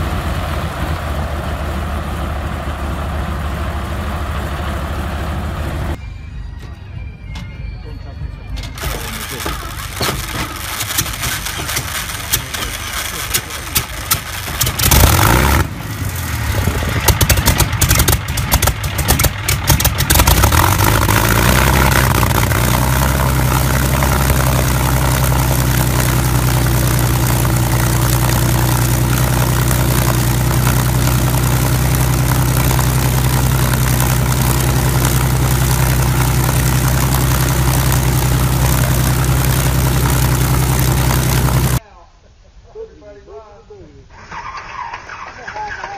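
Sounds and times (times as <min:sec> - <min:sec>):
aircraft engine firing and idling: 0:00.0 - 0:07.5, 0:08.6 - 0:41.8.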